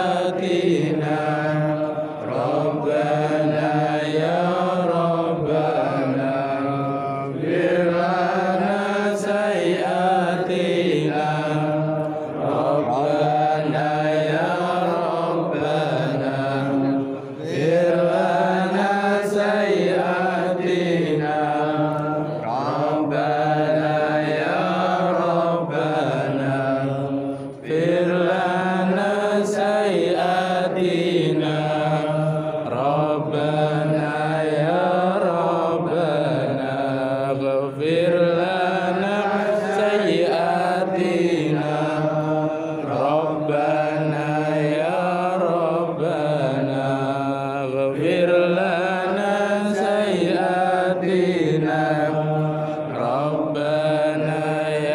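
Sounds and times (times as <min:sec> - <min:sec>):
melodic chanting: 0:00.0 - 0:54.9.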